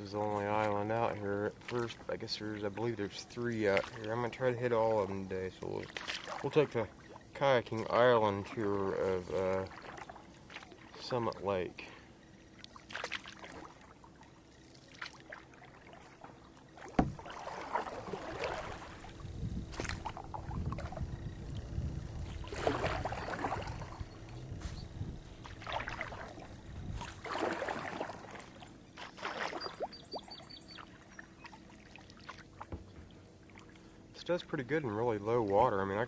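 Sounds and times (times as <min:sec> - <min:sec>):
kayak paddle splashing in water: 0:00.2 - 0:11.8, 0:12.5 - 0:34.0.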